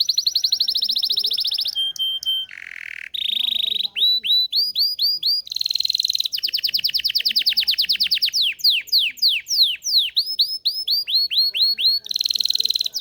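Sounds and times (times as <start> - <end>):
canary singing trills: 0.0 - 13.0.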